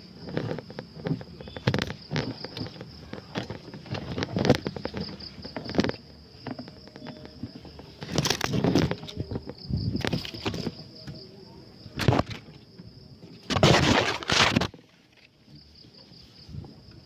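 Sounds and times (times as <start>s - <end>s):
dry leaves and twigs crackling: 0.0s - 12.8s, 13.5s - 15.8s.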